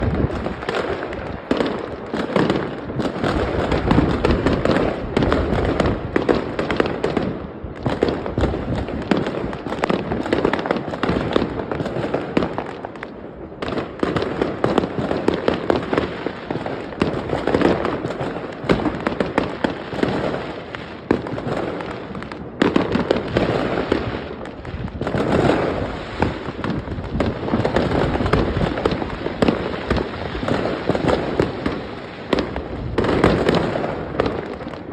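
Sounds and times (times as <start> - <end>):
fireworks bangs and crackling: 0.0 - 34.9.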